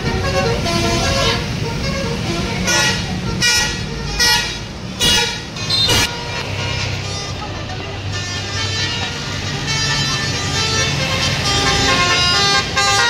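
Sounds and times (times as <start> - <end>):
musical air horn: 0.0 - 7.3, 8.1 - 13.0
bus engine rumble: 0.0 - 13.0.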